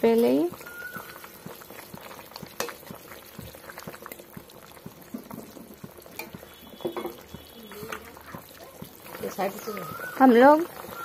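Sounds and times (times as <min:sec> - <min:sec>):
curry bubbling in a metal pot: 0:00.0 - 0:11.0.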